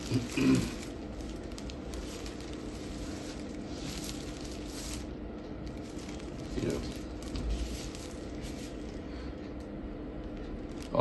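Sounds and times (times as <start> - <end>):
clothing rustling: 0.0 - 9.0
low room hum: 0.0 - 11.0.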